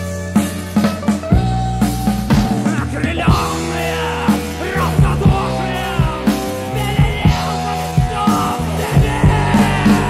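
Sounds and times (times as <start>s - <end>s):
drum beat: 0.0s - 10.0s.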